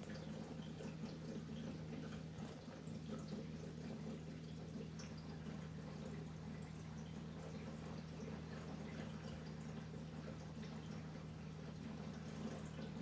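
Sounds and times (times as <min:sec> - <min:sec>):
water trickling and dripping: 0:00.0 - 0:13.0.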